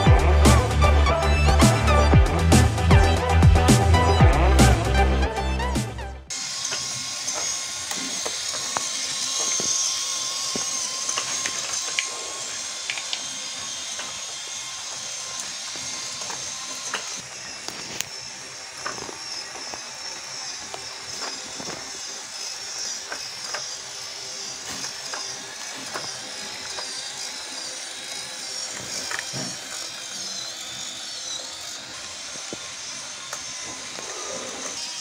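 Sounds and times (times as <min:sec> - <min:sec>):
small motor whirring: 0:00.0 - 0:35.0
toy wheels clicking and rattling: 0:06.3 - 0:35.0.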